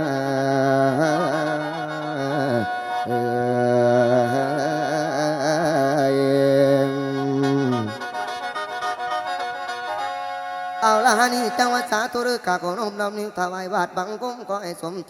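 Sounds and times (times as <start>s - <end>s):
person singing melismatic vocalise: 0.0s - 8.6s, 10.8s - 15.0s.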